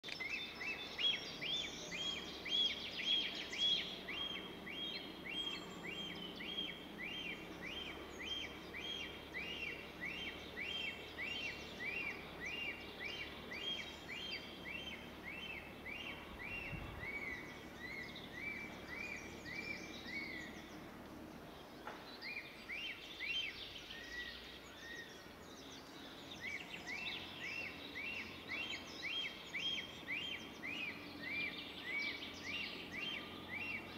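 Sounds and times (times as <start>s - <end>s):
bird chirping: 0.0s - 33.9s
faint outdoor background noise: 0.0s - 33.9s.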